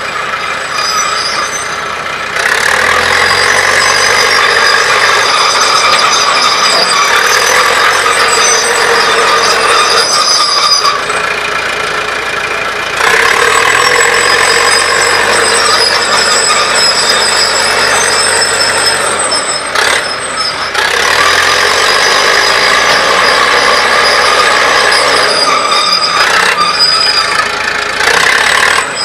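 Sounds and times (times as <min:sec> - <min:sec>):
crawler loader engine running: 0:00.0 - 0:29.0
high squeal of steel tracks: 0:00.0 - 0:29.0.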